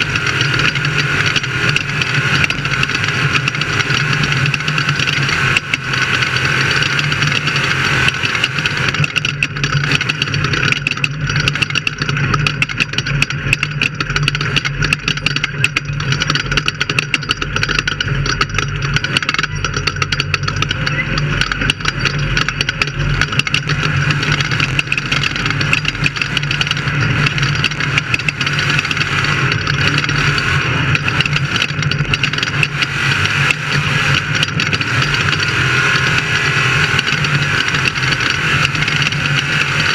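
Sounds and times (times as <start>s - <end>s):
sharp clicks and knocks: 0.0s - 39.9s
vehicle engine running hard: 0.0s - 39.9s.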